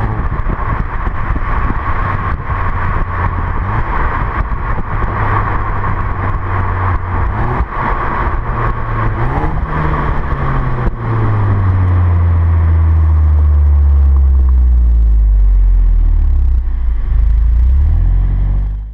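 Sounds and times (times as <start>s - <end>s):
car engine and exhaust revving: 0.0s - 18.9s.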